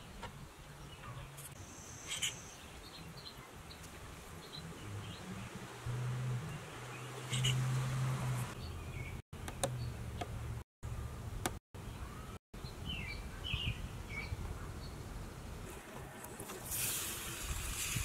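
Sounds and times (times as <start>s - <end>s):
small birds chirping: 0.0s - 15.4s.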